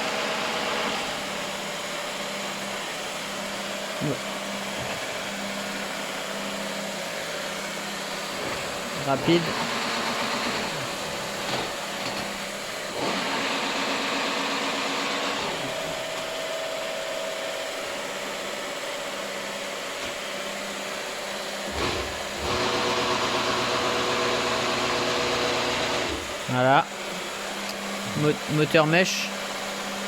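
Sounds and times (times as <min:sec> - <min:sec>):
milling machine drive humming: 0:00.0 - 0:30.0.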